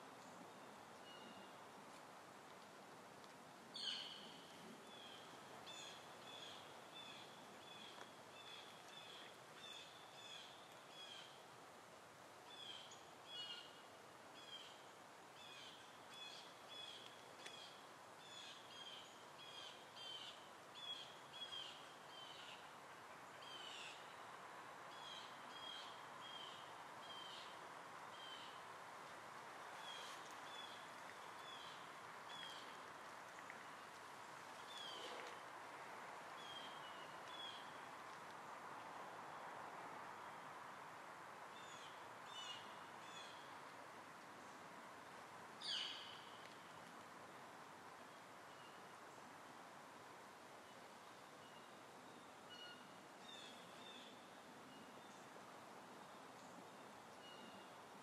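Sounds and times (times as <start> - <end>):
faint outdoor hiss: 0.0 - 58.0.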